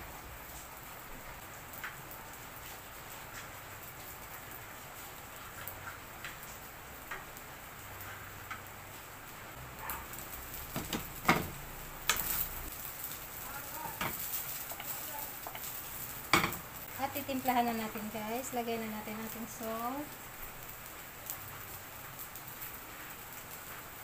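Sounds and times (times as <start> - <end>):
rice crackling in a frying pan: 0.0 - 24.0.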